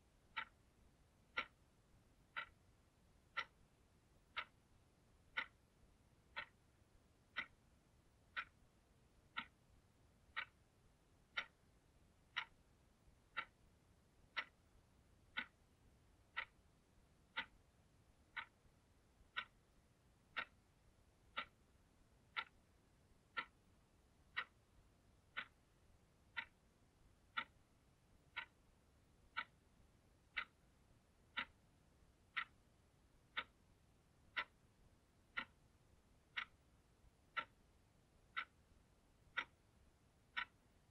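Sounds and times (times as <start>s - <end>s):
alarm clock ticking: 0.1s - 40.9s.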